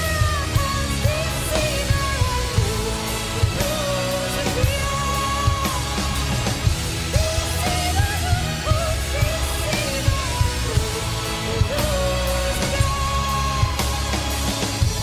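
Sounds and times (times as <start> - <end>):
symphonic metal band playing: 0.0 - 15.0
woman singing: 0.0 - 15.0.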